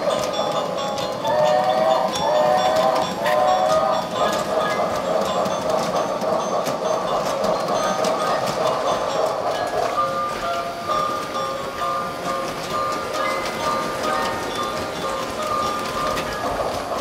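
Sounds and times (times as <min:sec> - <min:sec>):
tinny electronic christmas music: 0:00.0 - 0:17.0
toy steam train sound effects: 0:00.0 - 0:17.0.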